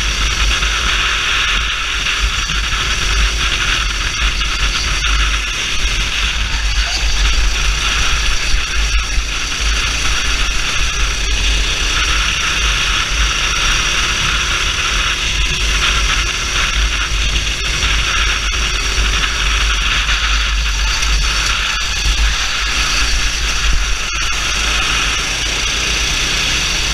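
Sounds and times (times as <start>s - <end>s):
faint kart engine: 0.0s - 26.9s
wind buffeting microphone: 0.0s - 26.9s.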